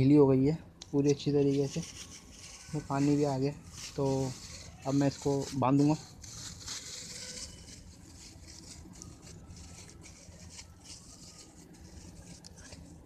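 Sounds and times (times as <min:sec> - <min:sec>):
plastic bag crinkling: 0:01.6 - 0:13.0.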